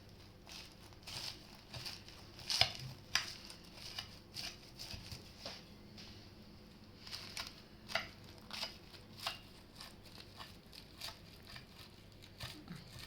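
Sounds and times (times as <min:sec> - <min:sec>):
pastry crust crackling and crunching: 0:00.0 - 0:05.7, 0:06.9 - 0:13.0.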